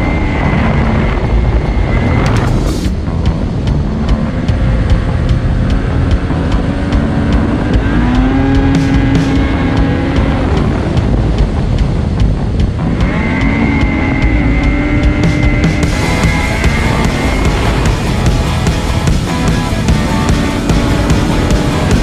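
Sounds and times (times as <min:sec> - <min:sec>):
snowmobile engine under throttle: 0:00.0 - 0:22.0
track and wind noise: 0:00.0 - 0:22.0.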